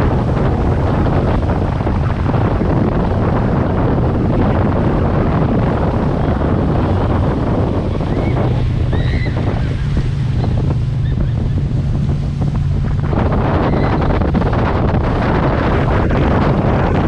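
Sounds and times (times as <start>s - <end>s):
motorboat engine drone: 0.0s - 17.0s
rushing water: 0.0s - 17.0s
wind buffeting microphone: 0.0s - 17.0s.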